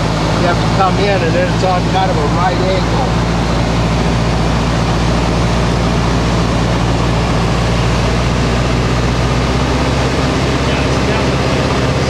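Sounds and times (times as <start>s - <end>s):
airflow rushing: 0.0s - 12.0s
light aircraft engine and propeller: 0.0s - 12.0s.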